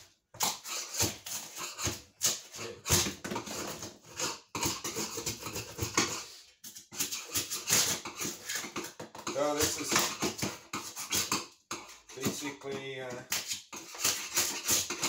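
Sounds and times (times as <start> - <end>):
metal scraper scraping foam: 0.4 - 15.0.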